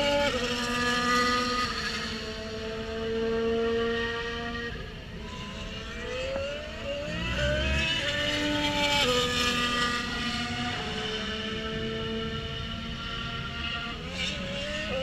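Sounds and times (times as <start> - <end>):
race car accelerating: 0.0 - 15.0
race car engine steady revs: 0.0 - 15.0.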